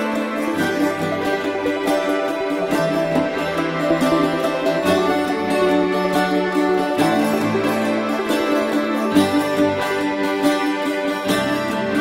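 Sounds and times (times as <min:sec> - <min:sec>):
gentle instrumental background music: 0:00.0 - 0:12.0.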